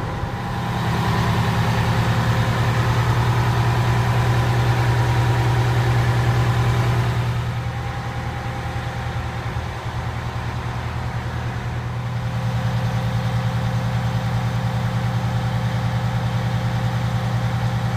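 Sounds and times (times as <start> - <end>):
diesel truck engine idling: 0.0 - 17.9.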